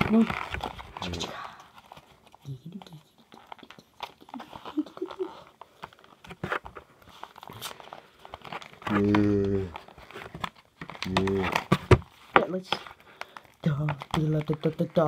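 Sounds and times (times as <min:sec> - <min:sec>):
cardboard crinkling and tearing: 0:00.0 - 0:02.5, 0:03.3 - 0:15.0.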